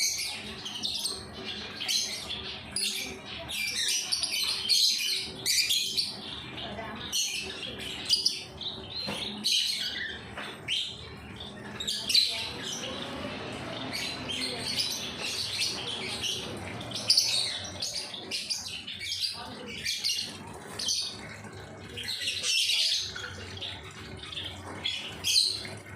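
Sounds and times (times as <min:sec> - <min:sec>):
pet birds chirping: 0:00.0 - 0:25.9.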